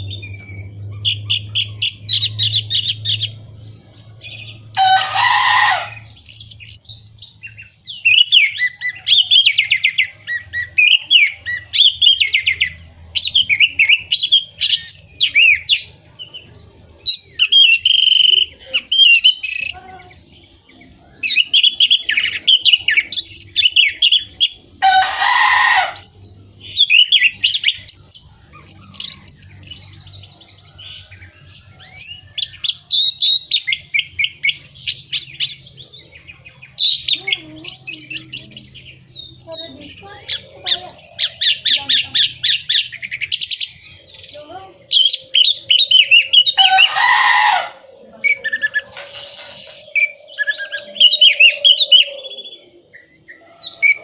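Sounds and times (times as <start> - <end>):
thrush singing: 0.0 - 54.0.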